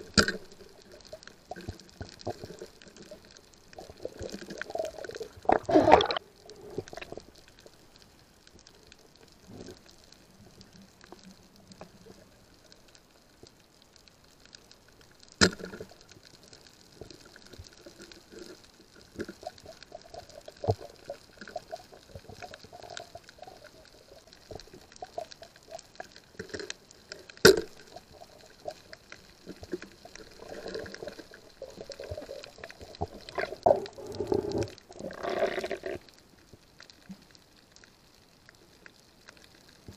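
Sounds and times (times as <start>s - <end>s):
small ticks: 0.0s - 5.4s, 6.3s - 39.9s
faint underwater water movement: 0.0s - 39.9s.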